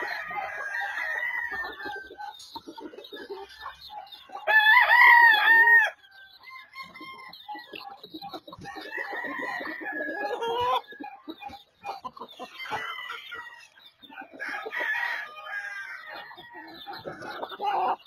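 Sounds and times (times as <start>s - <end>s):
roosters crowing: 0.0s - 18.0s.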